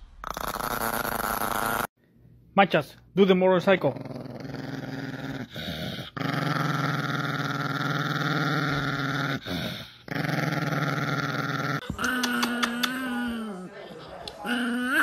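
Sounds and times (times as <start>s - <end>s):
dog growling: 0.2s - 1.9s, 3.8s - 15.0s.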